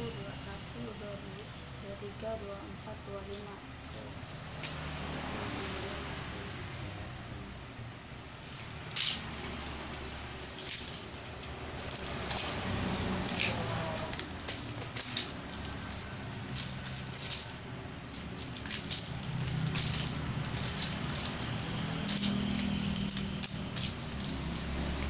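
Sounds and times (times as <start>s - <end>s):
rustling of objects handled: 1.5s - 7.3s, 7.9s - 25.0s.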